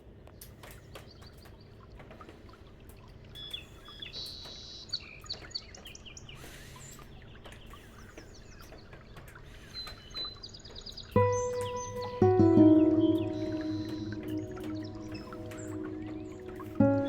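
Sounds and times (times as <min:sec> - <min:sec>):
small birds chirping: 0:00.4 - 0:17.0.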